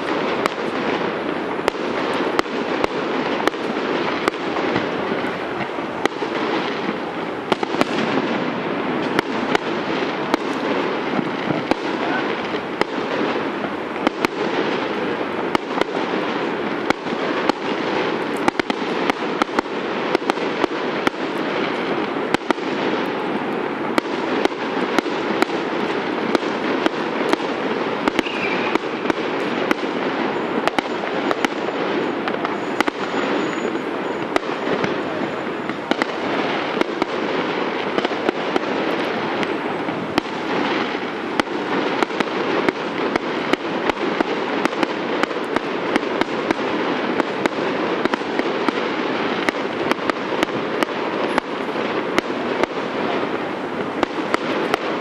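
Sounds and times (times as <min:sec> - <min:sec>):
fireworks bangs and pops: 0:00.0 - 0:55.0.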